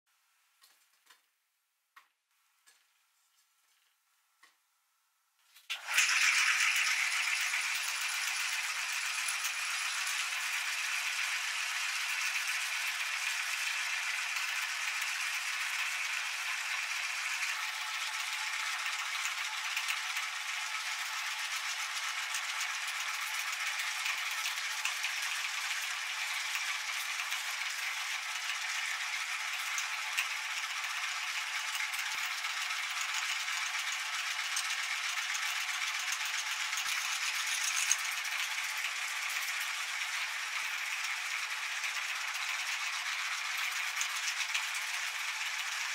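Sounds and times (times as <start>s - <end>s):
meat grinder running: 5.7s - 45.9s.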